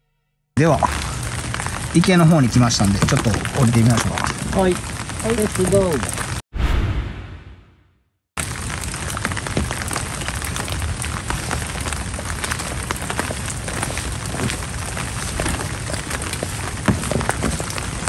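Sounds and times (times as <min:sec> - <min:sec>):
rain on plastic umbrellas: 0:00.6 - 0:06.4, 0:08.4 - 0:18.0.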